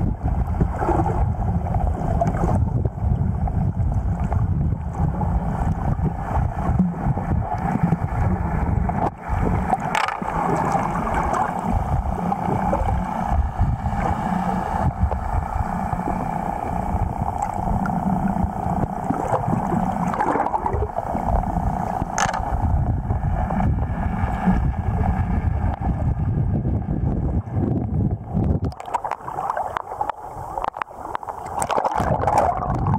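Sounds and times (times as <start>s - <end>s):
steady hum: 0.0s - 32.9s
underwater rumble: 0.0s - 32.9s.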